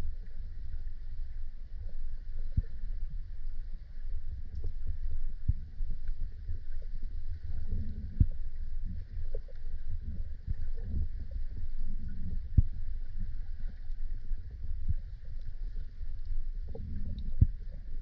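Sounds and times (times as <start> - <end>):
underwater rumble of moving water: 0.0 - 18.0.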